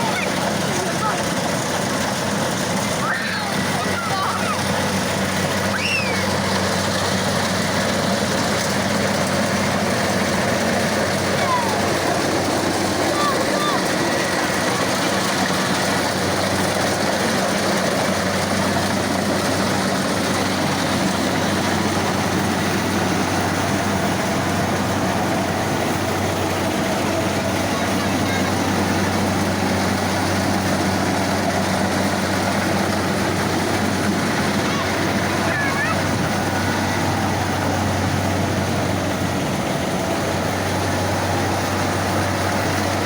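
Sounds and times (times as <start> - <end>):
combine harvester running: 0.0 - 43.0.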